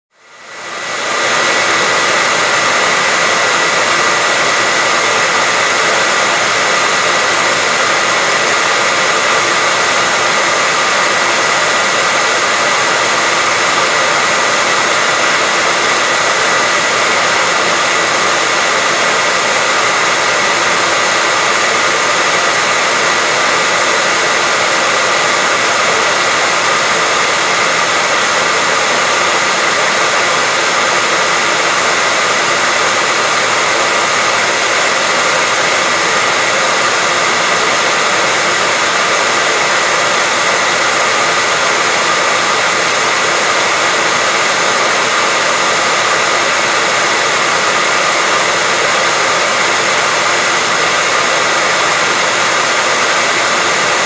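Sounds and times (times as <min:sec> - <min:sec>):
hair dryer running: 0:00.1 - 0:54.0.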